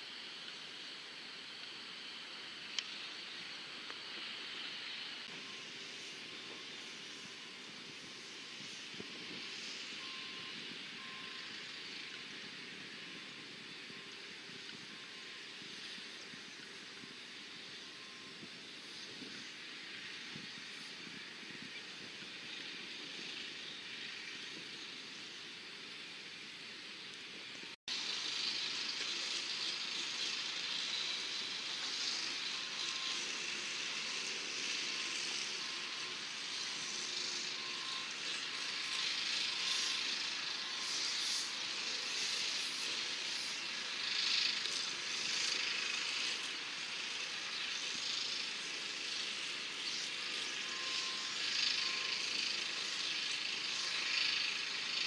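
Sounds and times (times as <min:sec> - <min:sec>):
steady high hiss: 0:00.0 - 0:55.0.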